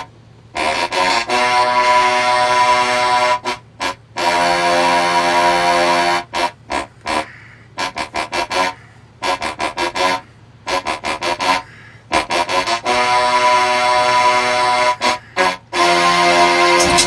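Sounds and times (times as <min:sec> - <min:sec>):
car horn honking: 0:00.0 - 0:17.0
steady low hum: 0:00.0 - 0:17.0.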